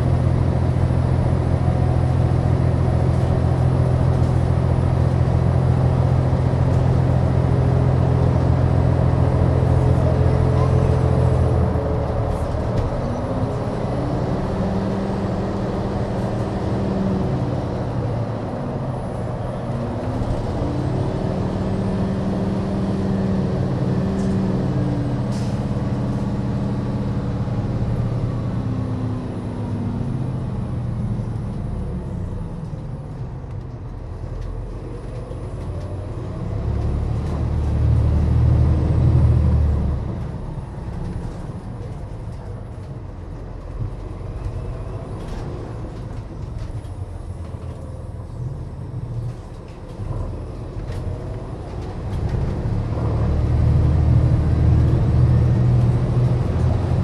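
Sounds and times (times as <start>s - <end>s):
bus engine idling: 0.0s - 57.0s.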